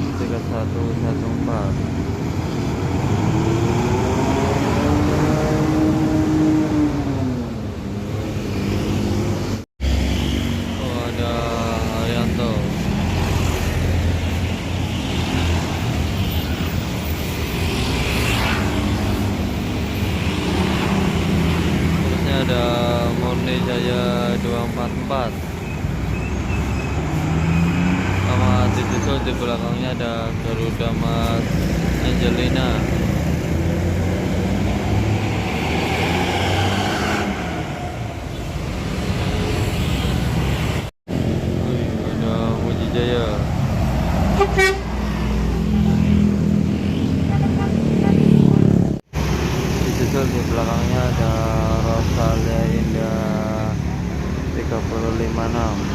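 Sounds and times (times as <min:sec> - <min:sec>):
bus diesel engines rumbling: 0:00.0 - 0:55.9
road noise: 0:00.0 - 0:55.9.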